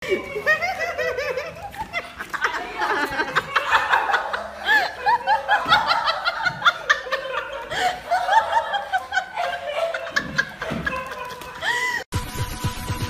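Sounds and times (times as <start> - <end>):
rapid high-pitched laughter: 0.0 - 12.1.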